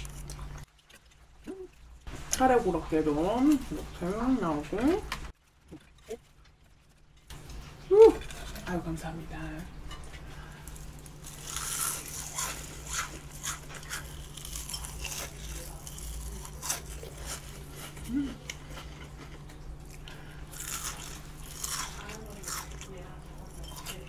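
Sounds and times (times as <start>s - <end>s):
crunching and chewing fried food: 0.0s - 4.0s, 4.6s - 9.0s, 9.9s - 24.0s.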